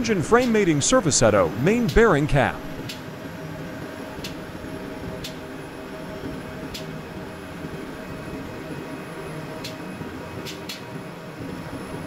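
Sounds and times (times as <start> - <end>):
engine room machinery drone: 0.0 - 12.0.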